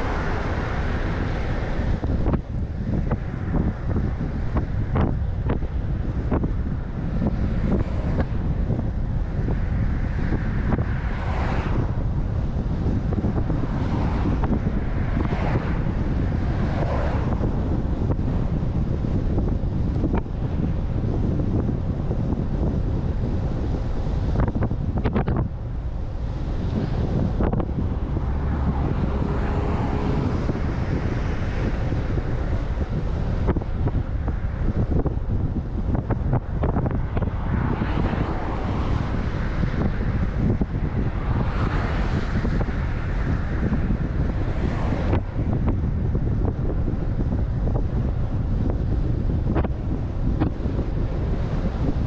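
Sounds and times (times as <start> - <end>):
bike tyres on road: 0.0 - 52.0
wind buffeting microphone: 0.0 - 52.0.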